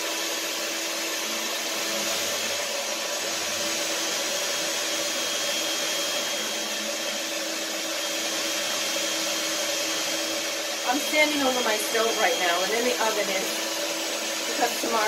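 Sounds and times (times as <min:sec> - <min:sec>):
electric stand mixer running: 0:00.0 - 0:15.0.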